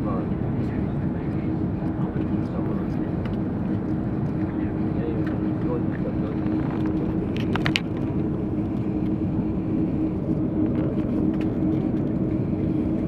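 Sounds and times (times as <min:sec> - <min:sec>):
airplane cabin engine hum: 0:00.0 - 0:13.0
low drone tone: 0:00.0 - 0:13.0.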